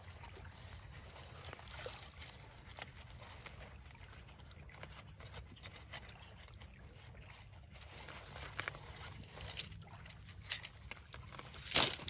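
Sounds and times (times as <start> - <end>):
water lapping at shoreline: 0.0 - 12.0
gear clicking and rustling: 0.3 - 12.0.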